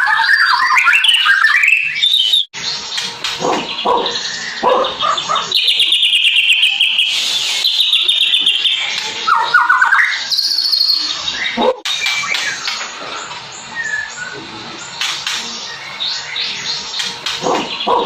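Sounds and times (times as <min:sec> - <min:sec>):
bird singing fast repeated notes: 0:00.0 - 0:18.0.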